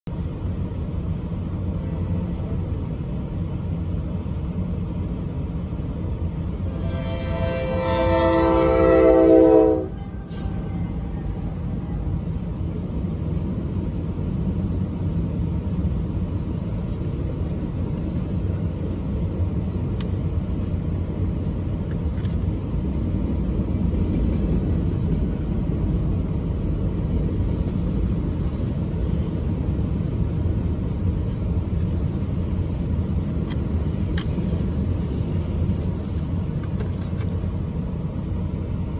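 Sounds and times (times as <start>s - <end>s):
freight train rumbling: 0.0s - 38.9s.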